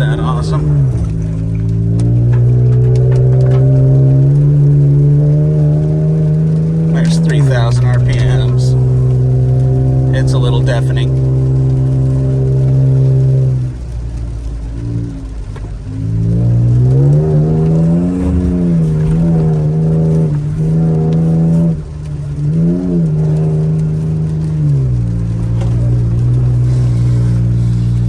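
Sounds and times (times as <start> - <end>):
engine droning through exhaust: 0.0 - 28.0.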